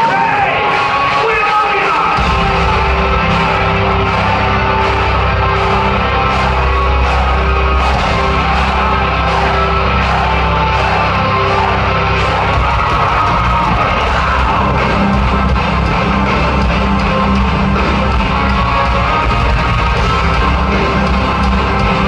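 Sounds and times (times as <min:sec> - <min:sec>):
heavy metal band playing live: 0:00.0 - 0:22.0.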